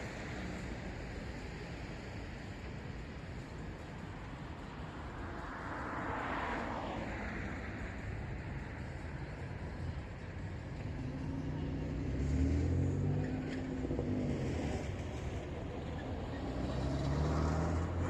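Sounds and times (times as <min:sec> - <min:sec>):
cars passing by: 0:00.0 - 0:18.0.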